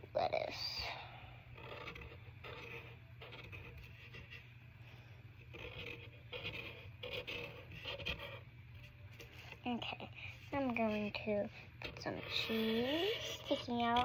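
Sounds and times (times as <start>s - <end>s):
scribbling on paper: 1.5s - 4.5s, 5.4s - 14.0s.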